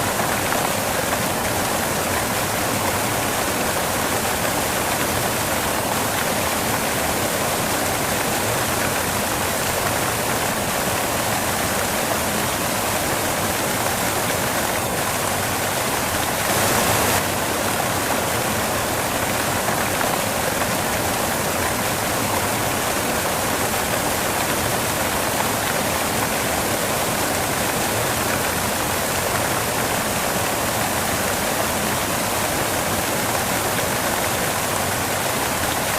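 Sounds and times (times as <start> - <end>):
white noise hiss: 0.0 - 35.9.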